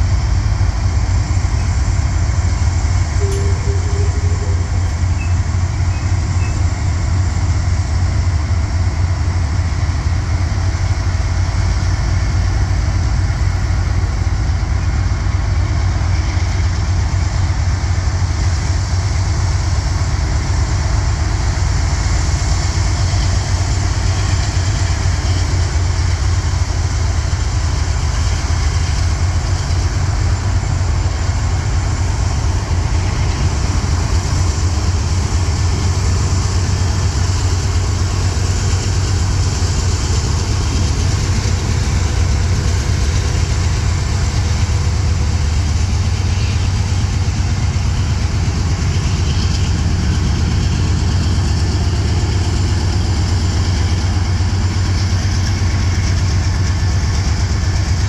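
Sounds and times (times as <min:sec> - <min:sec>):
diesel locomotive engines rumbling: 0:00.0 - 0:58.0.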